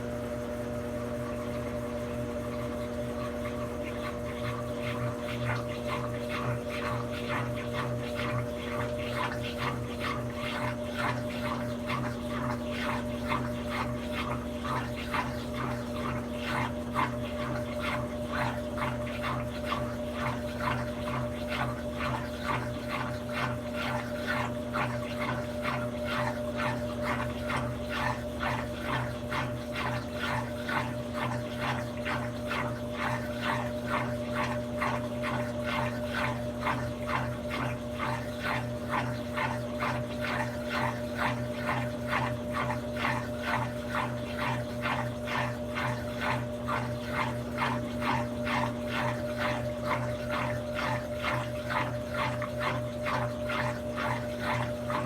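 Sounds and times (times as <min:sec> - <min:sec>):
rhythmic swishing of water and laundry: 0:00.0 - 0:55.0
washing machine motor hum: 0:00.0 - 0:55.0.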